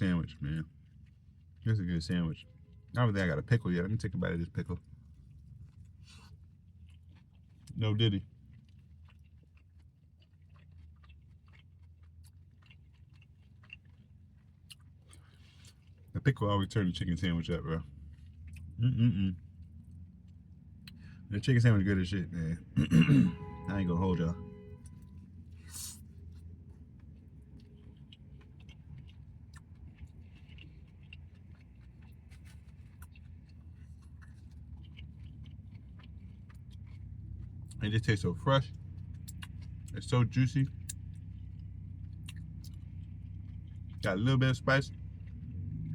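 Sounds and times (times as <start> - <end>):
chewing crunchy food: 0.0 - 22.1, 24.8 - 45.9
low steady hum: 0.0 - 45.9.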